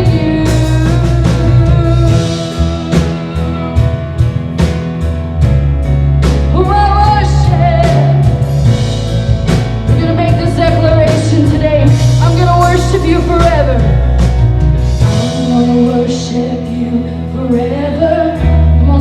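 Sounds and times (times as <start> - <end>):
heavy bass: 0.0 - 19.0
worship band playing rock song: 0.0 - 19.0.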